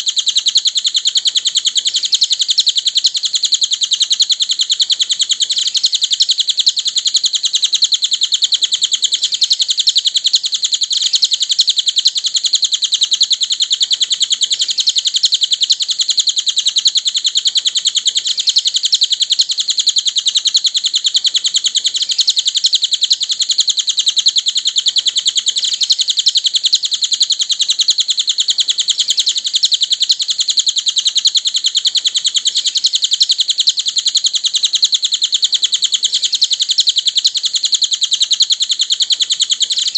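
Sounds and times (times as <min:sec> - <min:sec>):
songbird rapid chattering trill: 0:00.0 - 0:39.9.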